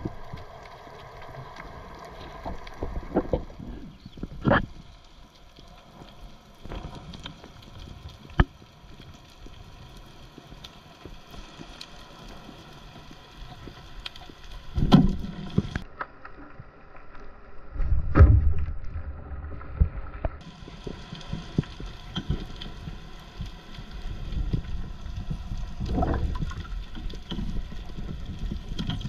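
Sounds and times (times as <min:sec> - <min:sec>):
underwater rushes of water: 0:00.0 - 0:29.0.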